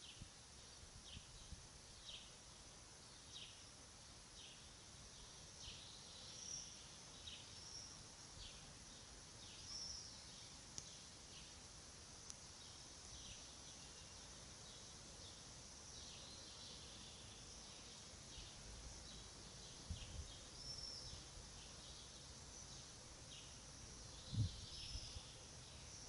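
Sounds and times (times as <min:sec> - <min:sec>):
faint bird chirping: 0:00.0 - 0:26.0.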